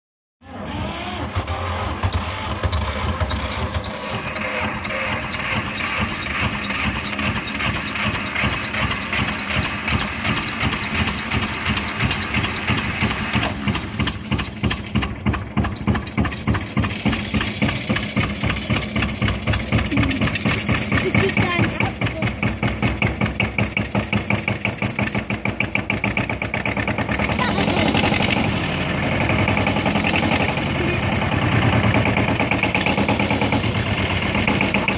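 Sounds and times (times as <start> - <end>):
tractor engine idling: 0.6 - 34.9.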